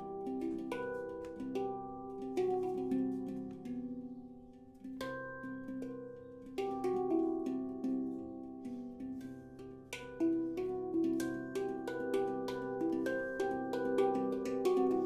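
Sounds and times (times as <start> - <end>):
handpan notes played by hand: 0.0 - 15.0.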